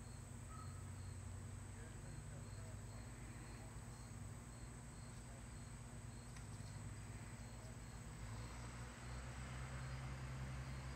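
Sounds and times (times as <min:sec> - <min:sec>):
insect chirping: 0:00.0 - 0:10.9
low steady hum: 0:00.0 - 0:10.9.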